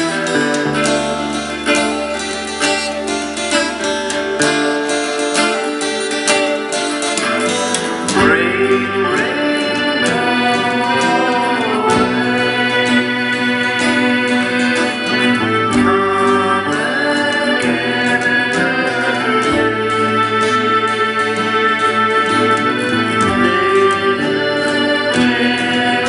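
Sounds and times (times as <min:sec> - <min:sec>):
acoustic guitar picking: 0:00.0 - 0:26.0
backing track with keyboards: 0:00.0 - 0:26.0.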